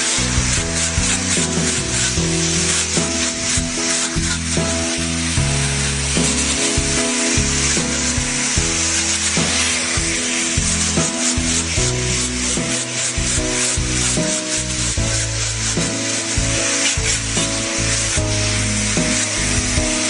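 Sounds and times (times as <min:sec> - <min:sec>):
background music with low notes: 0:00.0 - 0:20.0
wood being sanded: 0:00.0 - 0:20.0.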